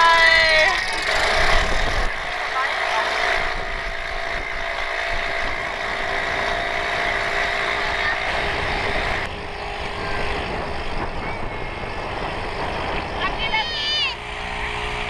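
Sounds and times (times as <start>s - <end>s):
outboard motor running: 0.0s - 15.0s
wind: 0.0s - 15.0s.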